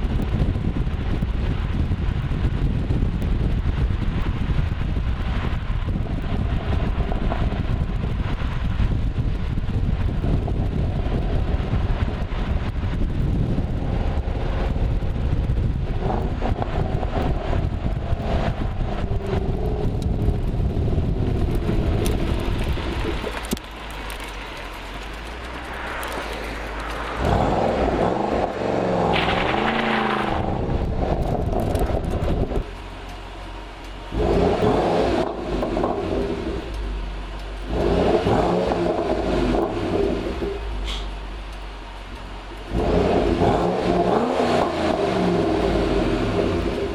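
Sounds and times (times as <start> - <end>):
car engine and exhaust: 0.0 - 46.9
road rumble: 0.0 - 46.9.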